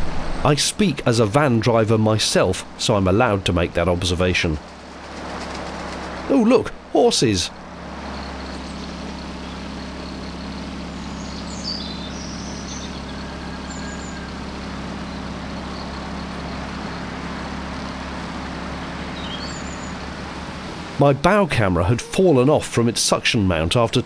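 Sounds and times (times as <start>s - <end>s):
birds chirping: 0.0s - 24.0s
outboard motor droning: 0.0s - 24.0s.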